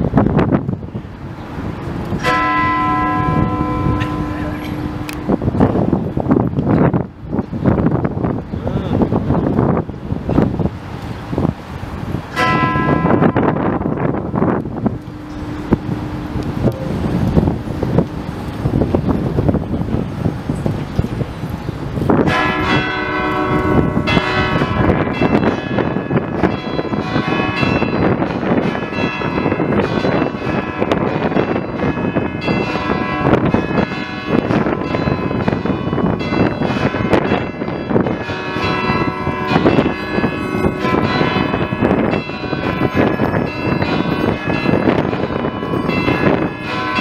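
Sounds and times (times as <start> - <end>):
church bells pealing: 1.1 - 7.8, 12.0 - 20.3, 21.7 - 47.0.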